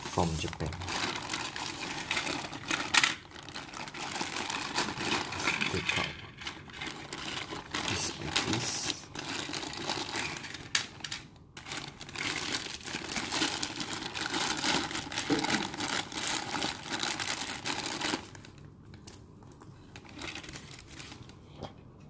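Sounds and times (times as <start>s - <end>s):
plastic wrapping crinkling: 0.0s - 21.6s.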